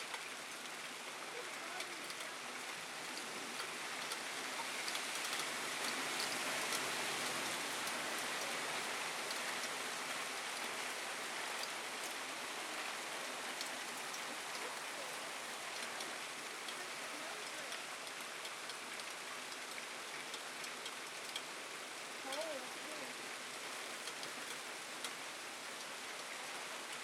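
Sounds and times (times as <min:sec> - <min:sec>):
hail and rain hissing: 0:00.0 - 0:27.0
hailstones ticking on hard surfaces: 0:00.0 - 0:27.0.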